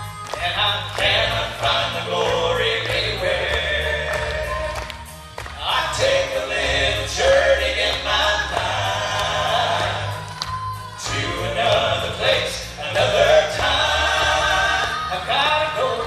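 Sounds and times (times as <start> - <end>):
instrumental accompaniment with bass: 0.0 - 16.0
vocal group singing in harmony: 0.0 - 16.0.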